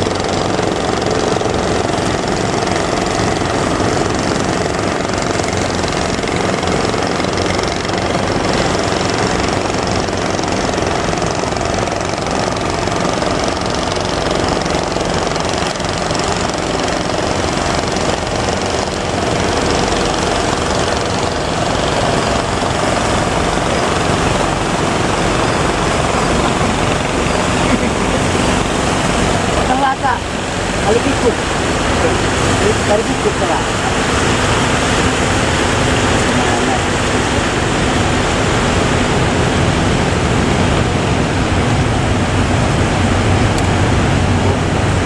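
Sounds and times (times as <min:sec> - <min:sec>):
boat engine running: 0:00.0 - 0:45.0
surf rushing: 0:00.0 - 0:45.0.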